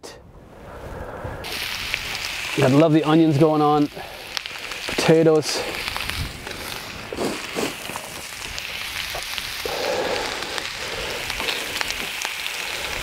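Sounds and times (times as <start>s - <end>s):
food sizzling on a grill: 1.4s - 13.0s.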